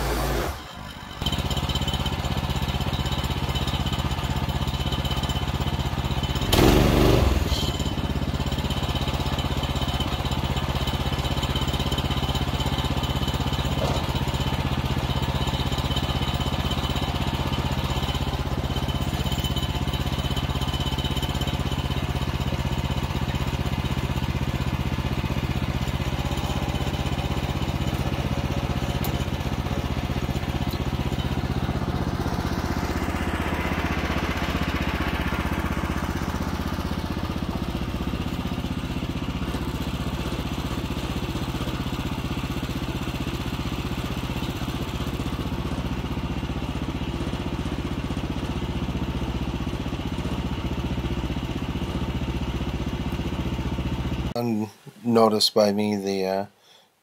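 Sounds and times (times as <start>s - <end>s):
sawmill gas engine running: 0.0s - 54.4s.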